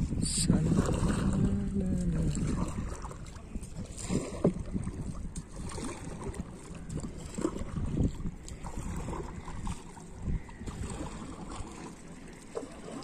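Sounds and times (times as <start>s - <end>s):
water lapping against boat hull: 0.0s - 13.0s
wind rumbling on microphone: 0.0s - 13.0s.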